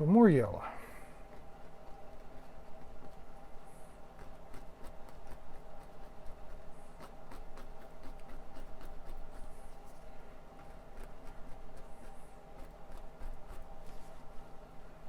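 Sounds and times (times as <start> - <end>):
faint steady hum: 0.0 - 15.0
paintbrush dabbing on canvas: 0.7 - 14.5.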